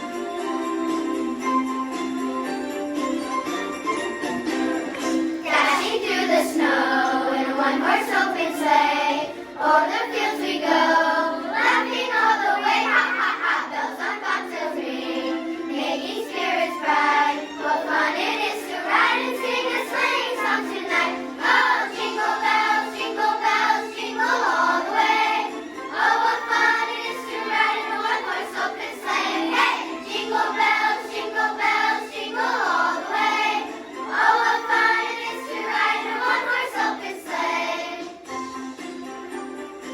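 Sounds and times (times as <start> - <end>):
instrumental accompaniment: 0.0 - 39.9
children's choir singing: 4.8 - 38.6.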